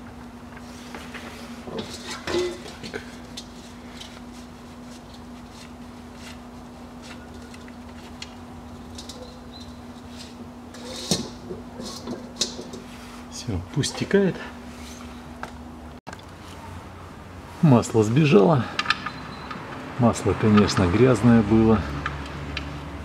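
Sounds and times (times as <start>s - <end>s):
steady low hum: 0.0s - 19.5s.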